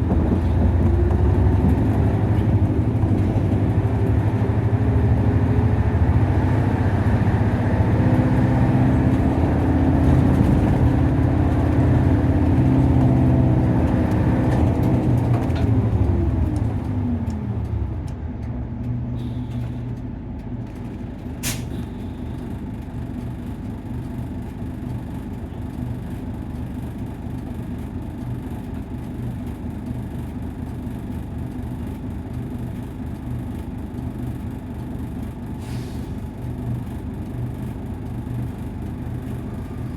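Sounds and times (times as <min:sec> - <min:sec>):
bus engine from inside: 0:00.0 - 0:39.9.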